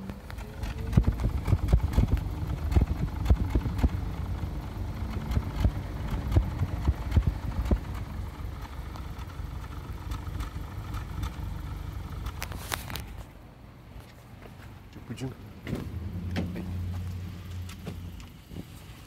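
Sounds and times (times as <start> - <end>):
car exhaust idling with pops: 0.0 - 13.3, 15.6 - 19.0.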